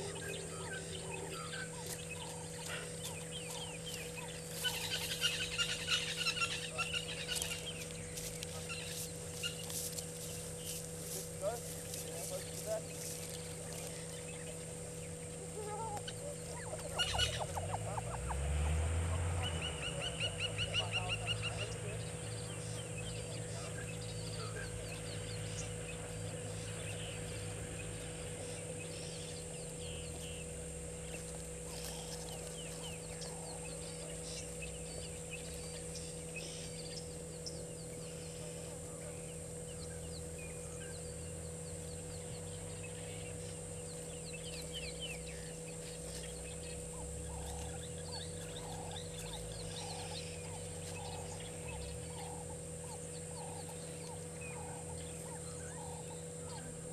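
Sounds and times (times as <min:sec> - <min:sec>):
birds chirping: 0:00.0 - 0:56.9
low bird call notes: 0:00.0 - 0:56.9
steady hum: 0:00.0 - 0:56.9.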